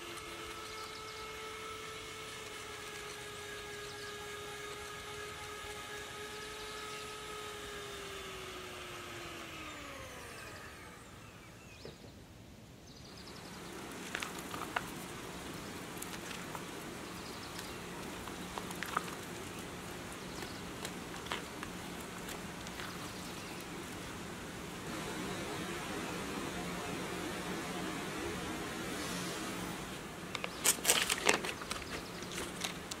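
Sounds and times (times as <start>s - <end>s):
electric hand mixer whirring: 0.0s - 11.7s, 13.6s - 33.0s.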